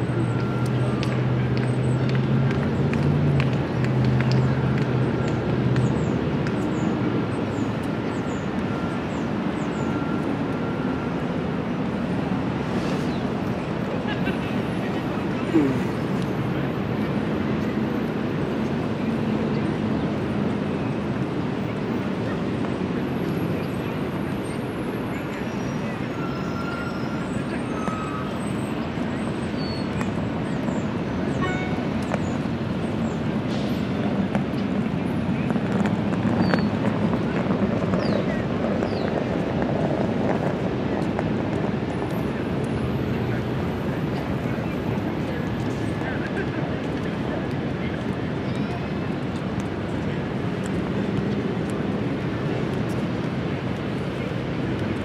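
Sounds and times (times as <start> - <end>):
steady traffic noise: 0.0 - 55.0.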